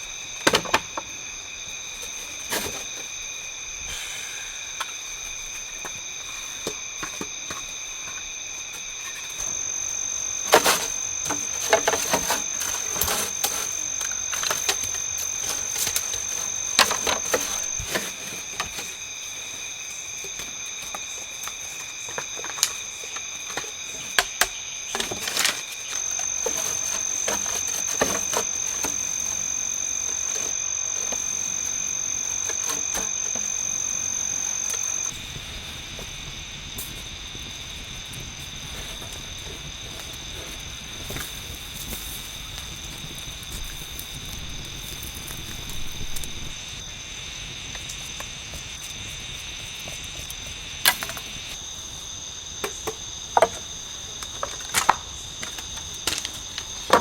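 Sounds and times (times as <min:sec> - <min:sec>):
shrill insect chorus: 0:00.0 - 0:57.0.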